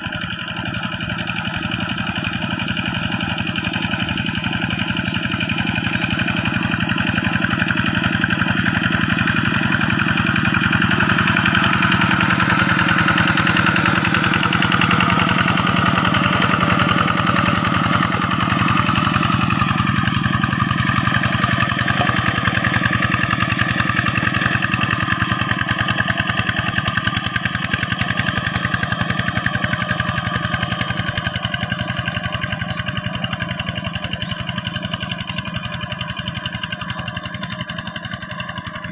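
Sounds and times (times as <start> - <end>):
tractor diesel engine chugging: 0.0 - 38.9.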